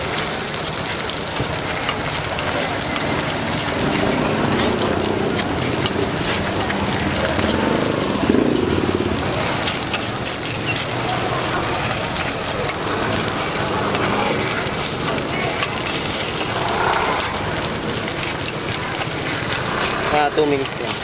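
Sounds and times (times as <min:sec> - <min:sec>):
hot oil sizzling and crackling: 0:00.0 - 0:21.0.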